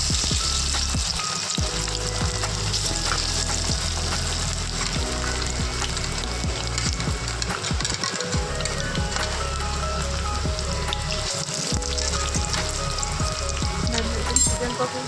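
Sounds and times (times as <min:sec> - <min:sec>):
chicken sizzling in hot oil: 0:00.0 - 0:14.5
background music: 0:00.0 - 0:15.0.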